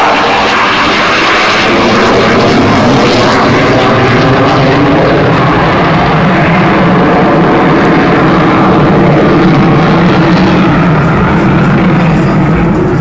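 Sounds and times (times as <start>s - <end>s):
fighter jet engine noise: 0.0s - 13.0s.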